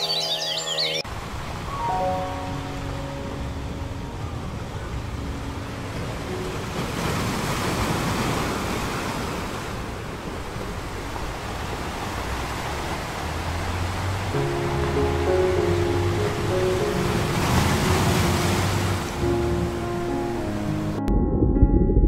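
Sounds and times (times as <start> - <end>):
sea surf washing onto beach: 1.1 - 20.2.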